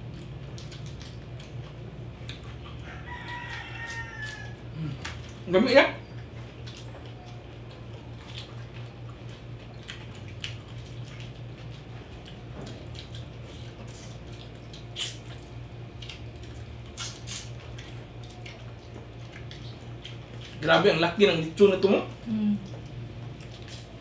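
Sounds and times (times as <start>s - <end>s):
wet chewing and lip-smacking: 0.0s - 24.0s.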